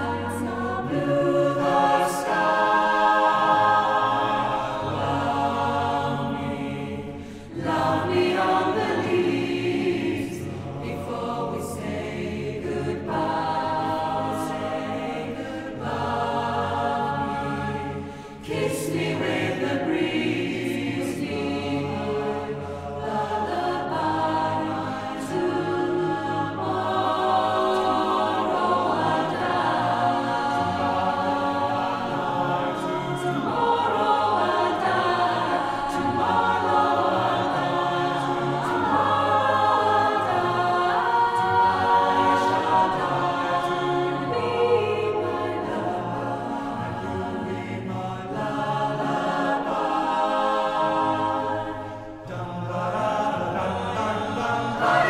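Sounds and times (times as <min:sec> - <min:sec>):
a cappella ensemble singing: 0:00.0 - 0:55.0.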